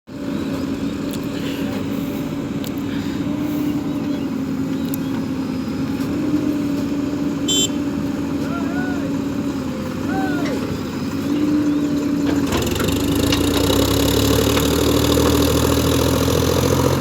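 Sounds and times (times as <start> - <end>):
heavy diesel engine running: 0.1 - 17.0.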